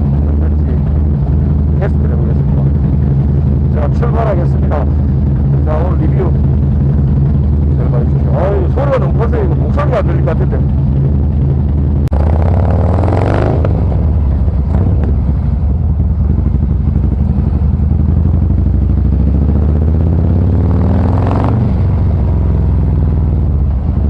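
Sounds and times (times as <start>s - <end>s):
loud motorcycle engine revving: 0.0s - 24.0s.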